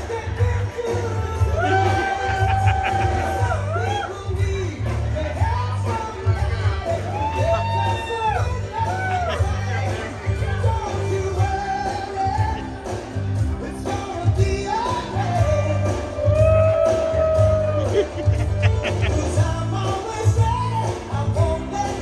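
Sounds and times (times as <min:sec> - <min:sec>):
rock song with singer: 0:00.0 - 0:22.0
steady bass beat: 0:00.0 - 0:22.0.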